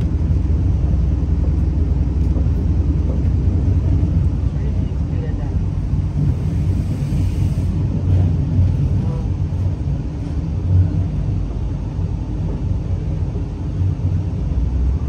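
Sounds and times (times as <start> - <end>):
diesel railcar engine: 0.0 - 15.0
train wheels running on track: 0.0 - 15.0.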